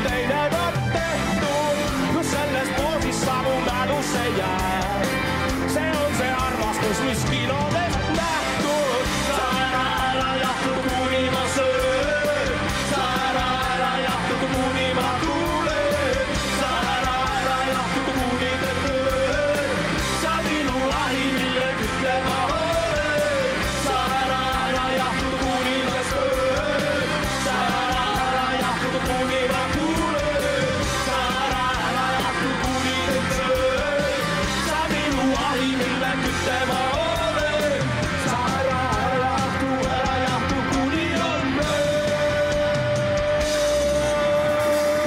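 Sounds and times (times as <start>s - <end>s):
drums: 0.0s - 45.0s
electric guitars: 0.0s - 45.0s
keyboard: 0.0s - 45.0s
person singing: 0.0s - 45.0s.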